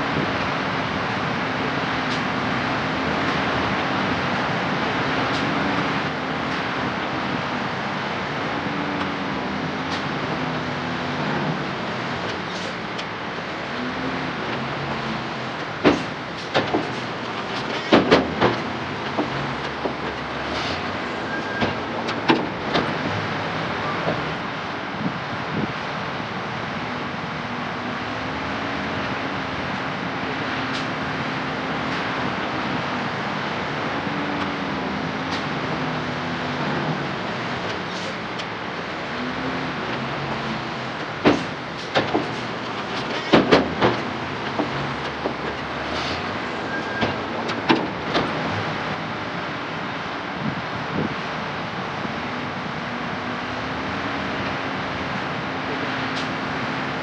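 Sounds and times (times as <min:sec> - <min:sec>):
diesel engine drone: 0:00.0 - 0:57.0.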